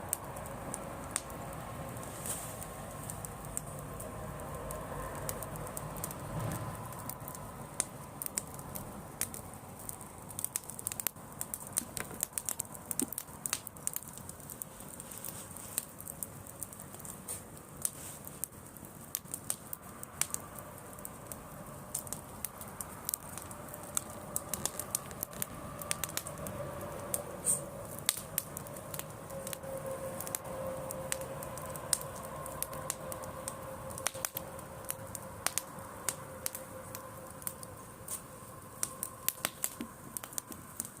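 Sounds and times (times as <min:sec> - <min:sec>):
campfire crackling and popping: 0:00.0 - 0:41.0
soft steady hiss: 0:00.0 - 0:41.0.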